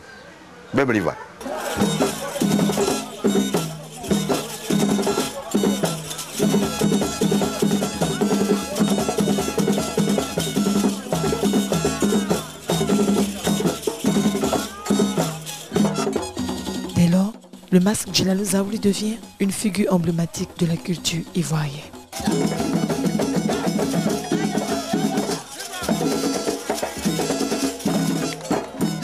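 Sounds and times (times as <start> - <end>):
drums and percussion: 1.4 - 29.0.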